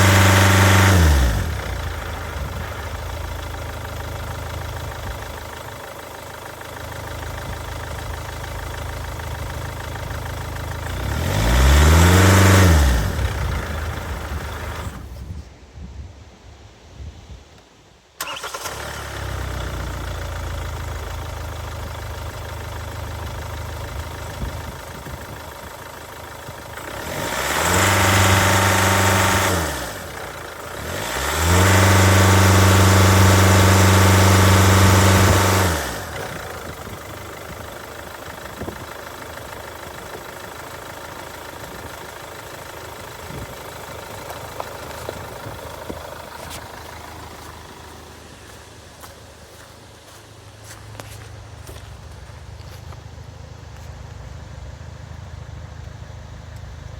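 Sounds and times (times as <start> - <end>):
diesel engine idling and revving: 0.0 - 15.5, 18.2 - 56.9.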